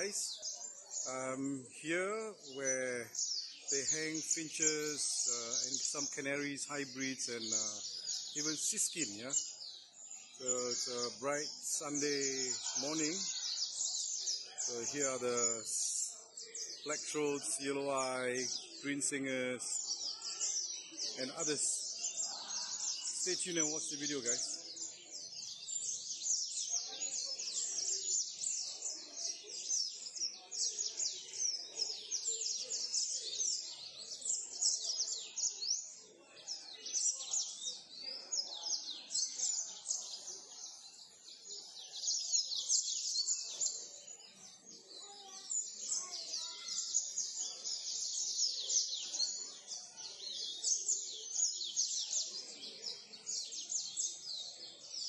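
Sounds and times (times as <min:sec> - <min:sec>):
caged birds twittering: 0:00.0 - 0:55.0.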